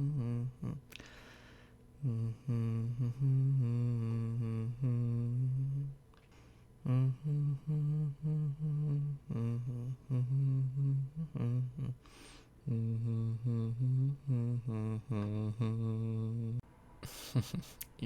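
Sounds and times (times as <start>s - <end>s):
man humming a lullaby: 0.0s - 1.3s, 2.0s - 6.0s, 6.8s - 16.6s.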